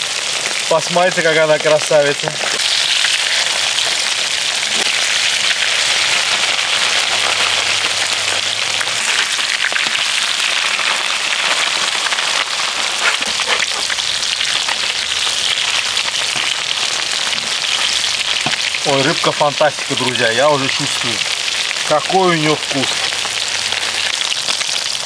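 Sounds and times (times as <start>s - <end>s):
fish sizzling in oil: 0.0s - 25.0s.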